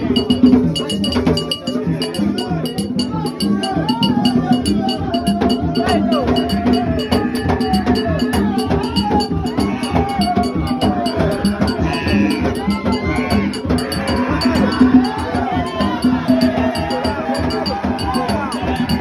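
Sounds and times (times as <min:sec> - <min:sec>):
percussion music with drums: 0:00.0 - 0:19.0
sharp clacking beat: 0:00.0 - 0:19.0
voices singing: 0:00.0 - 0:19.0.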